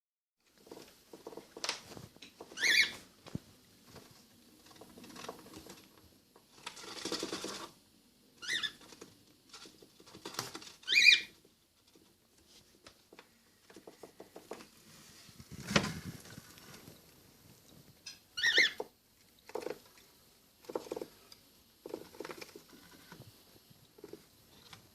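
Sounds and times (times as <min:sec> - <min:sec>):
soft scratching and rustling: 0:00.4 - 0:07.8, 0:08.5 - 0:18.1, 0:18.7 - 0:24.9.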